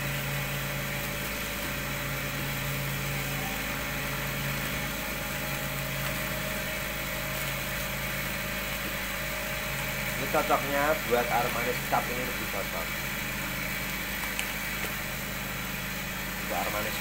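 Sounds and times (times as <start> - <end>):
gas burner hiss: 0.0 - 17.0
motor hum: 0.0 - 17.0.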